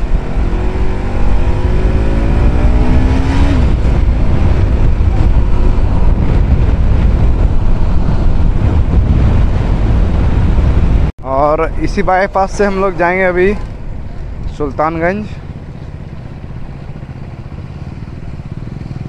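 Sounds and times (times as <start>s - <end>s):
motorcycle engine revving: 0.0s - 11.1s, 12.4s - 19.0s
wind rumble on microphone: 0.0s - 19.0s.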